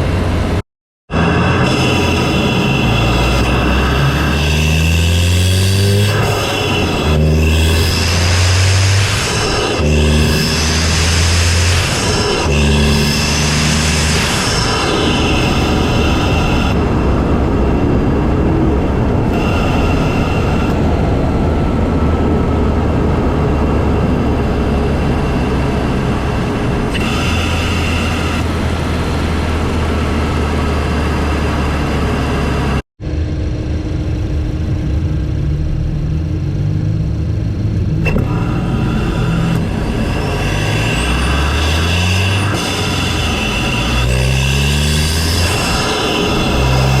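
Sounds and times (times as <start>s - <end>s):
car engine intake rumble: 1.2s - 47.0s.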